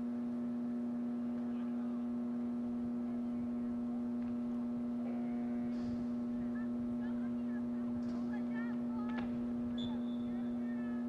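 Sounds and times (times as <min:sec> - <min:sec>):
steady hum: 0:00.0 - 0:11.0
faint distant voices: 0:01.2 - 0:11.0.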